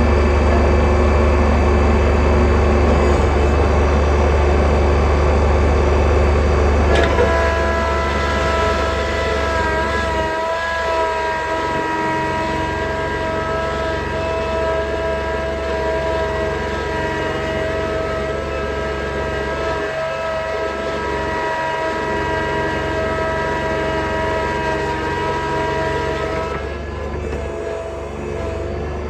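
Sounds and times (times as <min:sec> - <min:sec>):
steady high whine: 0:00.0 - 0:29.0
tractor engine hum: 0:00.0 - 0:29.0.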